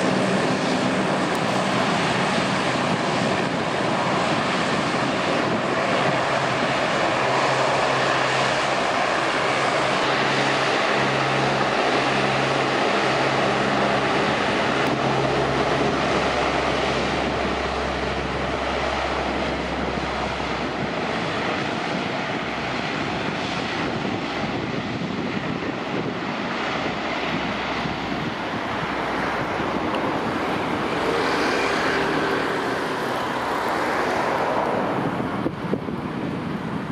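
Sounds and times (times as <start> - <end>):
turboprop engines droning: 0.0 - 36.9.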